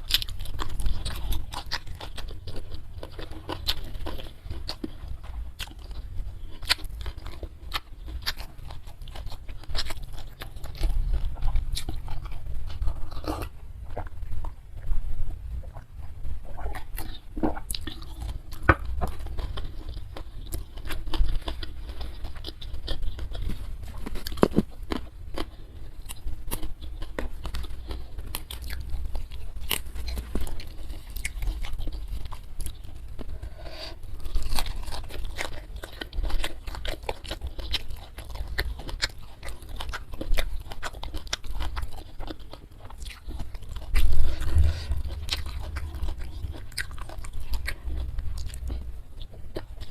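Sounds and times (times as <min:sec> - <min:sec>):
chewing and crunching food: 0:00.0 - 0:49.9.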